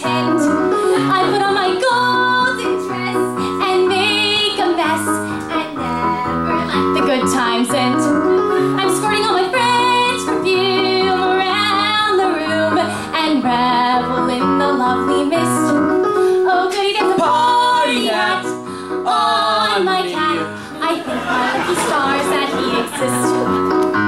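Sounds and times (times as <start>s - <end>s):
woman singing: 0.0s - 23.5s
piano accompaniment: 0.0s - 24.0s.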